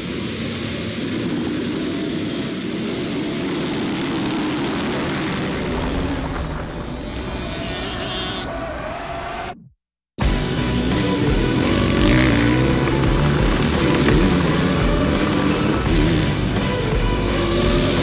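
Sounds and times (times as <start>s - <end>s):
dirt bike engines revving: 0.0s - 9.6s, 10.2s - 18.0s.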